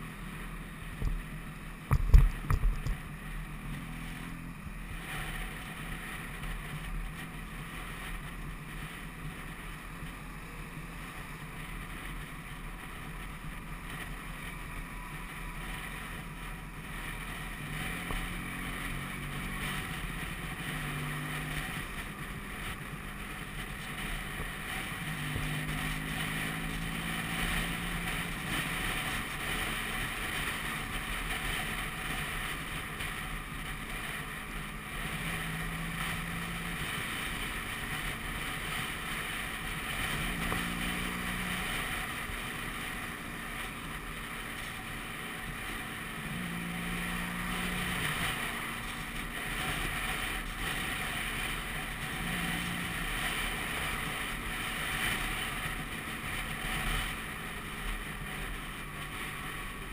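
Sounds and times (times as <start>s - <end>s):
scooter engine running: 0.0s - 59.9s
wind and road noise: 0.0s - 59.9s.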